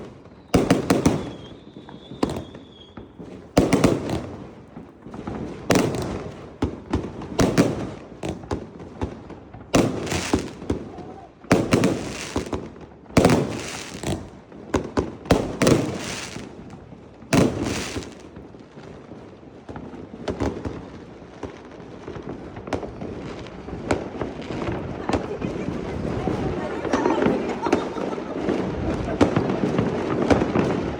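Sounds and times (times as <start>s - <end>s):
fireworks bangs and crackling: 0.0s - 30.9s.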